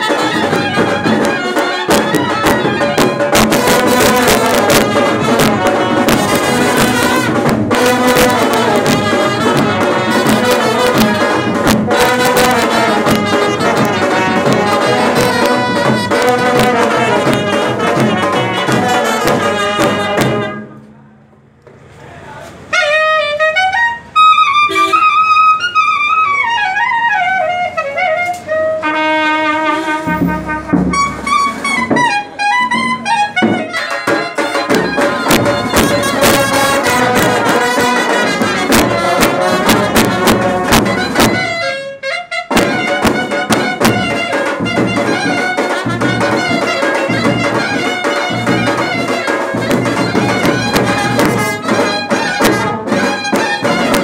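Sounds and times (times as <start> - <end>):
drums beating steadily: 0.0 - 20.8, 22.7 - 54.0
brass band playing: 0.0 - 20.9, 22.6 - 54.0
wind instrument melody: 0.0 - 21.2, 22.7 - 54.0.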